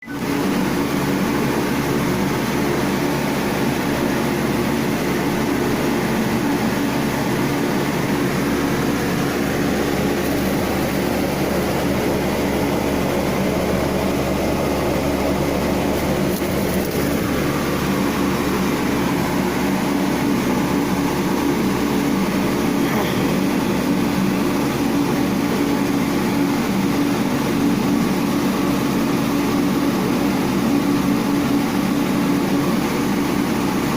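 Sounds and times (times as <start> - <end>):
mechanical hum: 0.0 - 33.9.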